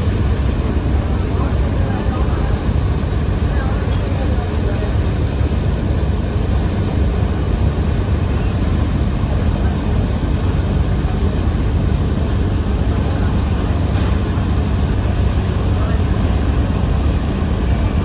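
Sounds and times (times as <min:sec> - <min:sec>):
boat engine drone: 0:00.0 - 0:18.0
water churning along hulls: 0:00.0 - 0:18.0.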